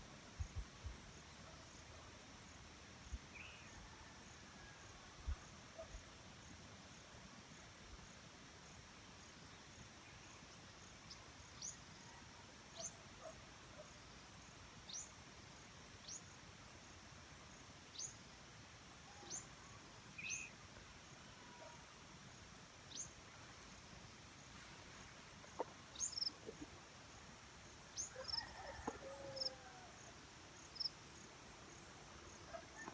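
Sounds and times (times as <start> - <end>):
faint insect drone: 0.0 - 32.9.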